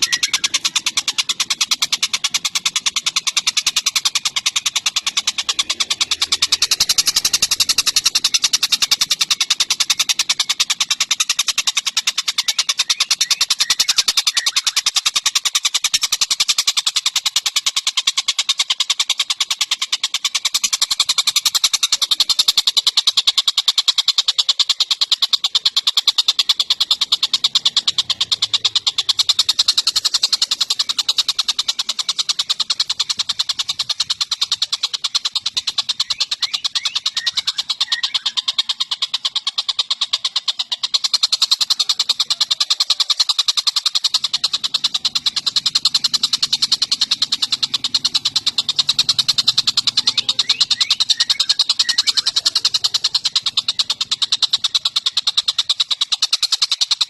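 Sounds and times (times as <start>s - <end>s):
bird singing fast trill: 0.0s - 57.0s.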